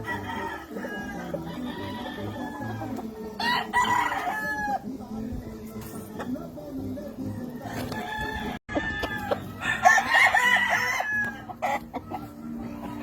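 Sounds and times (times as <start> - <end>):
roosters clucking: 0.0 - 13.0
roosters crowing: 0.0 - 13.0.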